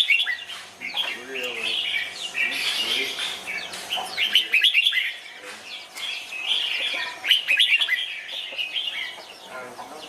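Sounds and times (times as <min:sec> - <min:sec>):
bulbuls chirping: 0:00.0 - 0:10.0.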